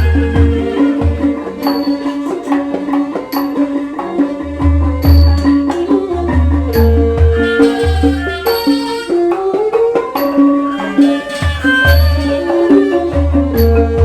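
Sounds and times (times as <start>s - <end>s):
melodic instruments playing: 0.0s - 9.3s, 9.9s - 14.0s
deep drum beats: 0.0s - 14.0s.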